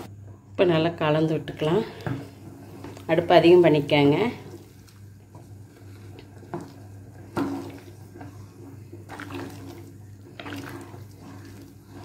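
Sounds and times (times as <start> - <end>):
low steady hum: 0.0 - 12.0
spoon stirring wet rice: 1.6 - 12.0.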